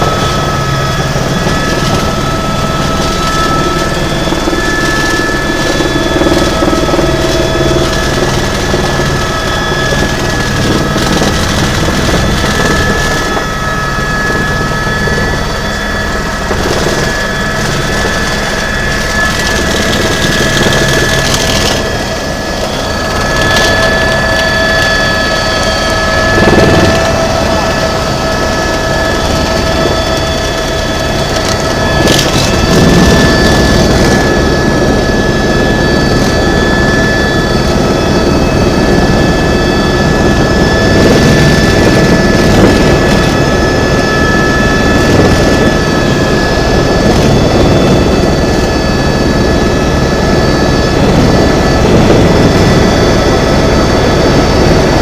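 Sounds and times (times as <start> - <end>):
helicopter engine and rotor: 0.0 - 55.0
steady whining tones: 0.0 - 55.0.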